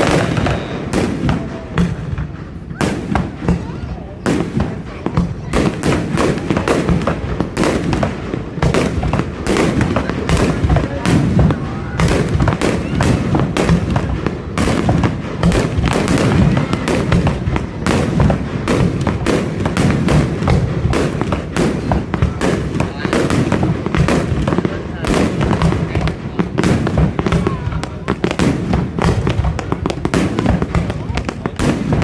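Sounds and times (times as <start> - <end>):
fireworks bangs and crackles: 0.0 - 32.0
onlookers' voices: 0.0 - 32.0.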